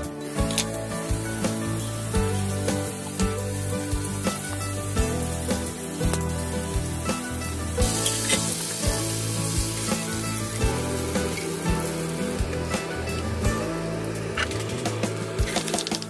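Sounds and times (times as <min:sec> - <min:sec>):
background music with beat: 0:00.0 - 0:16.0
food sizzling in a pan: 0:00.0 - 0:16.0.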